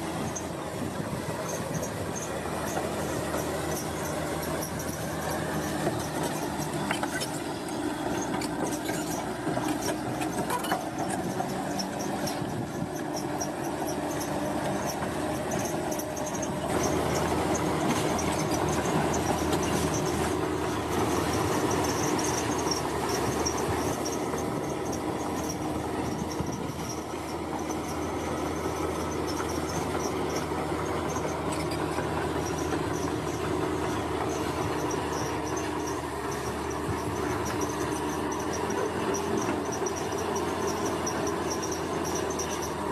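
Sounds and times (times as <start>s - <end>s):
bulldozer diesel engine: 0.0s - 42.9s.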